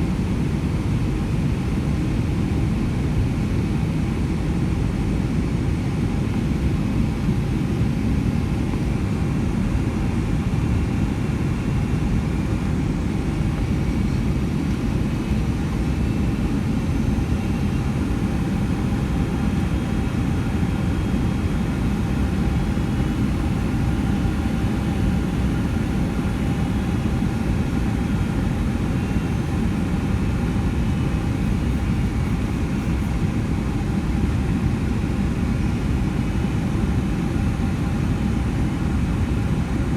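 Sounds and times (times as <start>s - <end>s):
aircraft engines and airflow rumble: 0.0s - 39.9s
faint steady whining tones: 6.2s - 39.9s.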